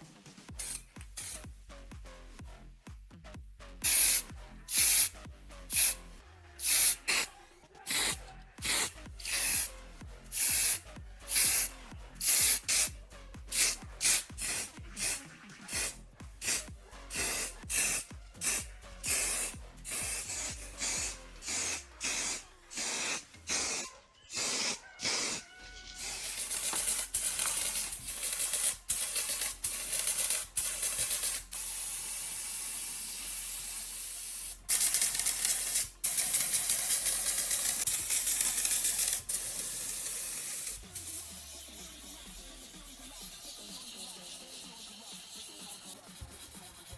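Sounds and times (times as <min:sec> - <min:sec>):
paint spray hissing: 0:00.6 - 0:01.4, 0:03.8 - 0:06.0, 0:06.6 - 0:07.3, 0:07.9 - 0:09.7, 0:10.3 - 0:12.9, 0:13.5 - 0:46.9.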